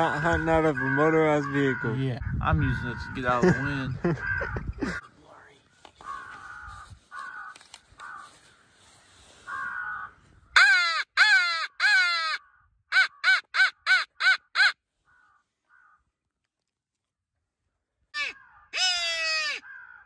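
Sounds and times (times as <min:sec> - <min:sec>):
crow call caws: 0:00.0 - 0:05.2, 0:05.8 - 0:16.3, 0:18.2 - 0:20.0.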